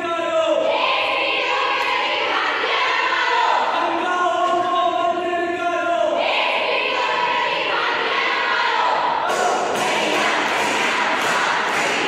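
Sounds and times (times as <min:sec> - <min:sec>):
group singing in unison: 0:00.3 - 0:04.6, 0:06.0 - 0:12.0.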